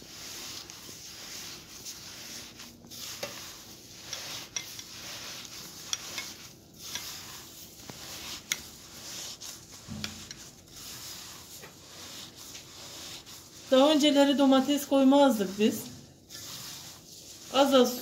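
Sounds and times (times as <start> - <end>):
gritty rustling of kneading: 0.0 - 18.0.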